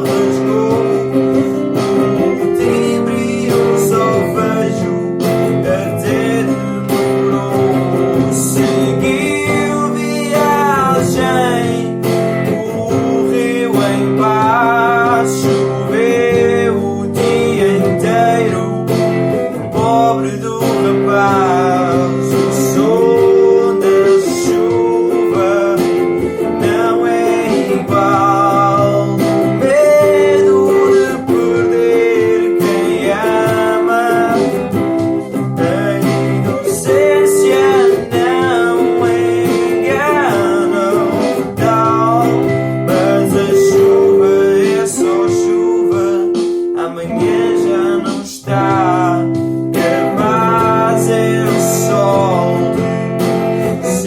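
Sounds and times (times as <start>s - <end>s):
wavering wordless melody: 0.0s - 52.6s
looped acoustic guitar: 0.0s - 54.0s.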